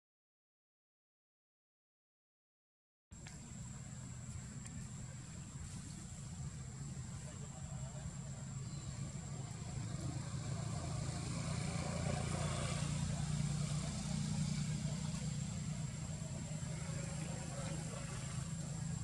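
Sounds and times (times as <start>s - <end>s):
low engine rumble: 3.2s - 19.0s.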